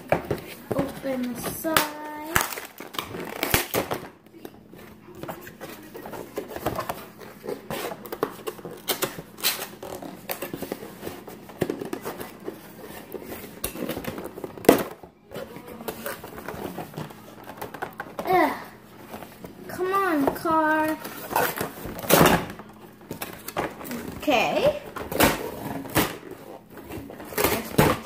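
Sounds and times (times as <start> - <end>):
cardboard and tape tearing: 0.0 - 28.0.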